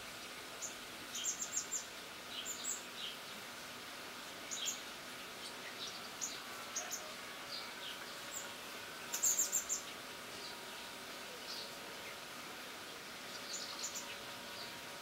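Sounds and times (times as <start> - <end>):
faint steady background noise: 0.0 - 15.0
small birds chirping: 0.2 - 3.4, 4.4 - 15.0.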